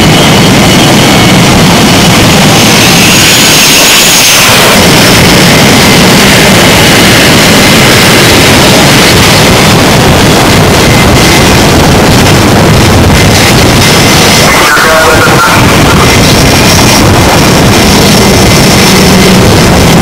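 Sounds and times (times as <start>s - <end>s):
high turbine whine: 0.0s - 20.0s
jet engines roaring: 0.0s - 20.0s.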